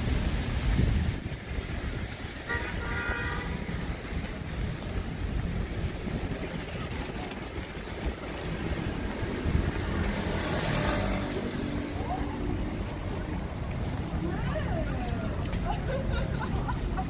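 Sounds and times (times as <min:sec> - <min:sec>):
rain hiss: 0:00.0 - 0:14.9
low rumble of traffic: 0:00.0 - 0:17.0.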